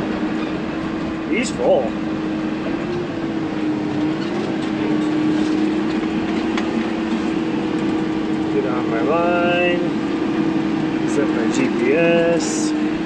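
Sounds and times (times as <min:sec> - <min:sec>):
tractor diesel engine droning: 0:00.0 - 0:13.0.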